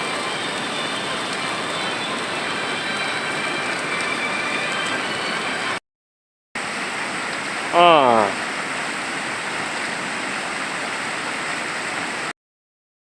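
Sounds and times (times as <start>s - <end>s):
fast heavy water rushing: 0.0s - 5.8s, 6.6s - 12.3s.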